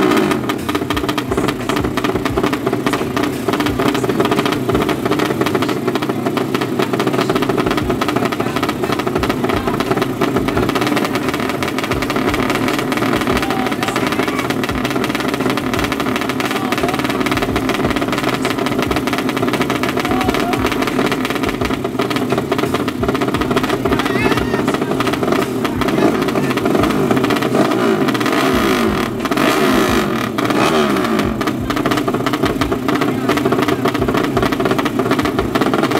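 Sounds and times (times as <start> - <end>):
motorcycle engines revving: 0.0 - 35.9.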